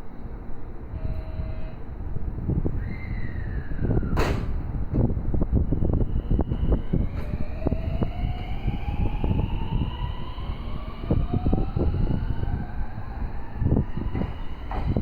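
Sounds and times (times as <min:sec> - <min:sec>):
low running rumble: 0:00.0 - 0:15.0
electric train motor whine: 0:00.7 - 0:04.1, 0:04.8 - 0:15.0.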